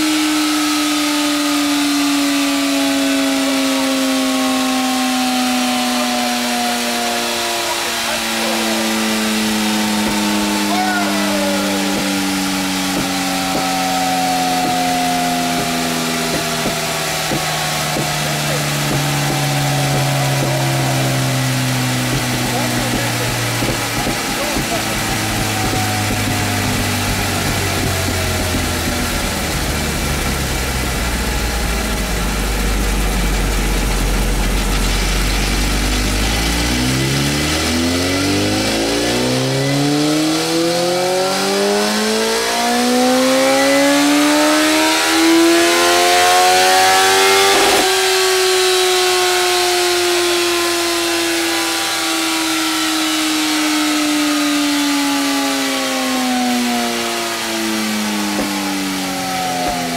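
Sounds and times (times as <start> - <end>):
dyno rollers winding down: 0.0 - 59.9
motorcycle engine revving: 0.0 - 59.9.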